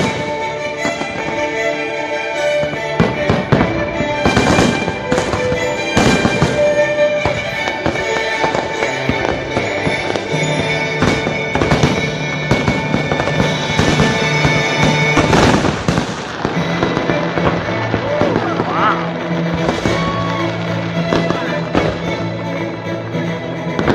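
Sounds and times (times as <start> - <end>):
fireworks bursting: 0.0 - 23.9
orchestral music over loudspeakers: 0.0 - 23.9.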